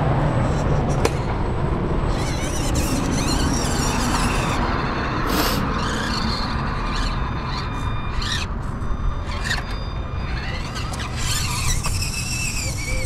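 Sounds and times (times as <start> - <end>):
small electric motor whining: 2.1 - 13.0.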